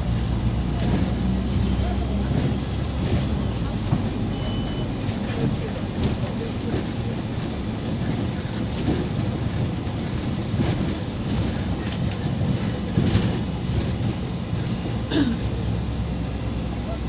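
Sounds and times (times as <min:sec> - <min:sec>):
bus engine and road rumble: 0:00.0 - 0:17.0
body rattles and knocks: 0:00.8 - 0:15.8.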